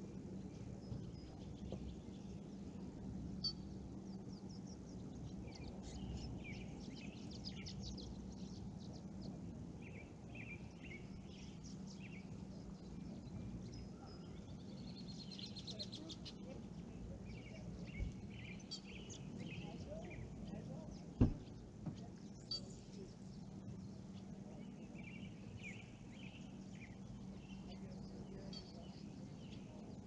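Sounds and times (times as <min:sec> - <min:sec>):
low background hum: 0:00.0 - 0:30.0
small birds chirping: 0:00.0 - 0:30.0.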